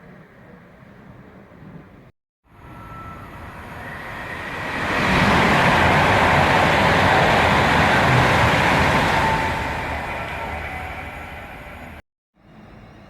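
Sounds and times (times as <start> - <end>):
train passing: 2.5 - 13.0.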